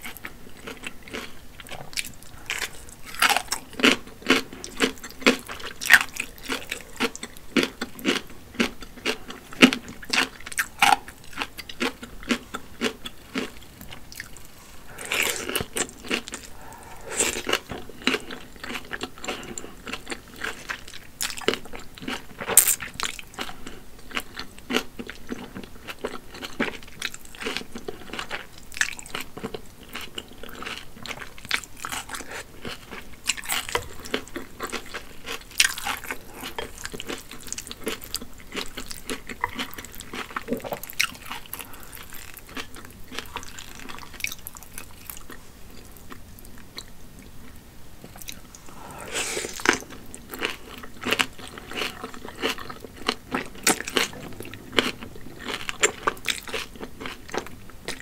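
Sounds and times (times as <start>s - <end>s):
noodles slurped and chewed: 0.0s - 58.0s.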